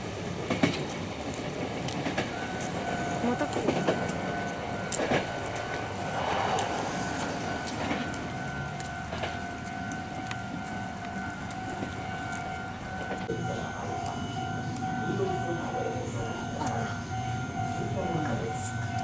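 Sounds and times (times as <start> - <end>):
electric train clattering over rails: 0.0 - 19.0
level-crossing alarm tone: 2.1 - 19.0.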